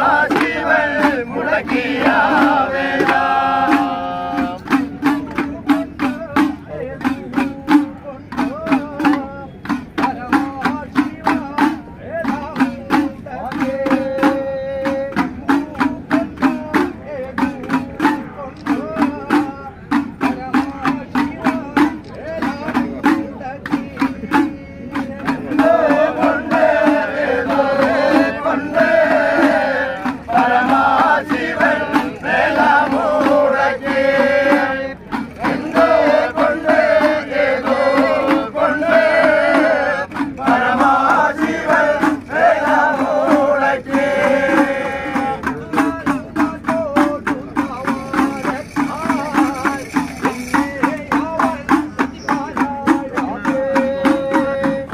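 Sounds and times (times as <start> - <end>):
men chanting in unison: 0.0 - 54.9
small hand drums beating rapidly: 0.0 - 54.9.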